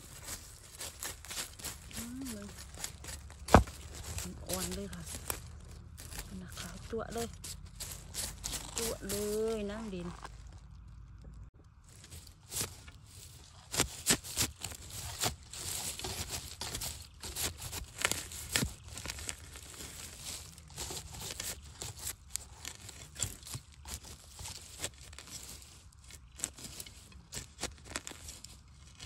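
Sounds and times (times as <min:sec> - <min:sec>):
digging tool striking soil: 0:00.0 - 0:10.4, 0:12.0 - 0:28.5
leaf rustle: 0:00.0 - 0:10.9, 0:11.8 - 0:29.0.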